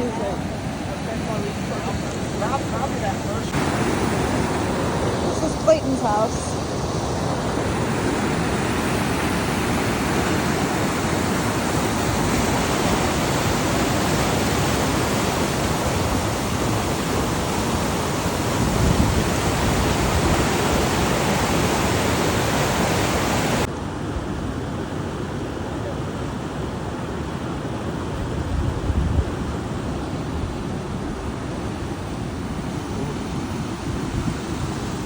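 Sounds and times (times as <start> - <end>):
floodwater rushing: 0.0 - 23.7, 24.6 - 35.0.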